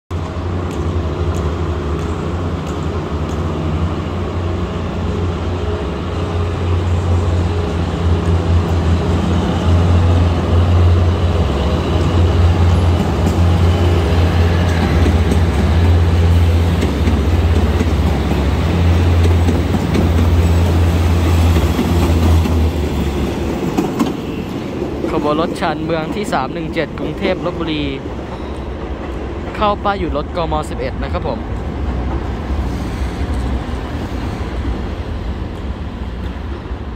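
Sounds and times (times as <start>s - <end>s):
diesel train rolling past: 0.1s - 36.9s.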